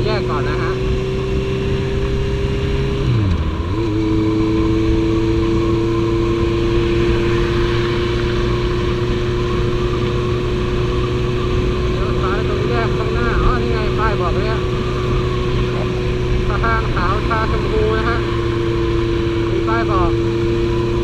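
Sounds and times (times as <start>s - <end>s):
motorcycle engine cruising: 0.0s - 21.0s
rushing wind noise: 0.0s - 21.0s.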